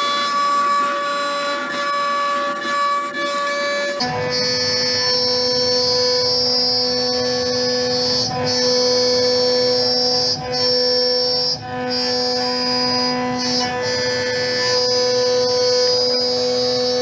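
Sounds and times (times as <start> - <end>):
router cutting whine: 0.0 - 17.0.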